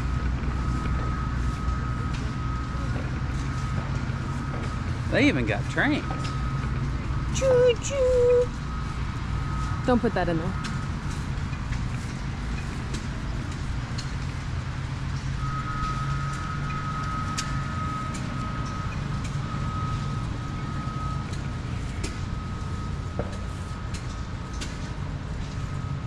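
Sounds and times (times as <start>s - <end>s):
engine droning: 0.0s - 26.0s
thin steady whine: 0.0s - 26.0s.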